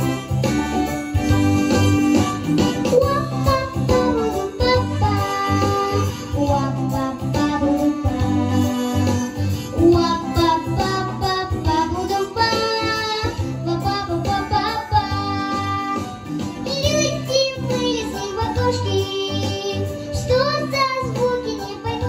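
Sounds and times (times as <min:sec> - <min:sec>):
instrumental backing music: 0:00.0 - 0:22.0
girl singing into a microphone: 0:02.9 - 0:22.0.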